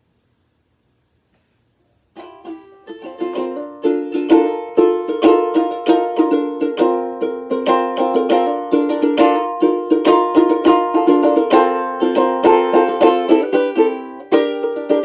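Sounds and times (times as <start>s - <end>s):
banjolele plucked chords: 2.1s - 15.0s.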